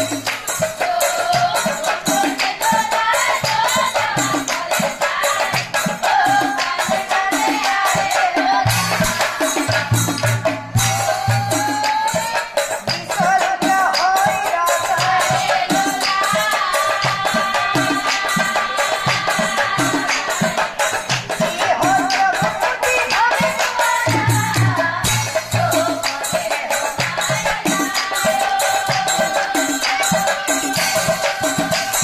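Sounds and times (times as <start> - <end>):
drums and hand percussion: 0.0 - 32.0
woman singing: 0.0 - 32.0.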